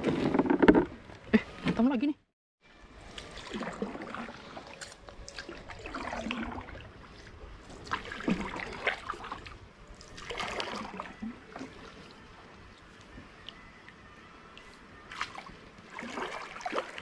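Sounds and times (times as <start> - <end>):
paddle pulling through water: 0.0 - 1.7, 2.8 - 13.4, 14.6 - 17.0.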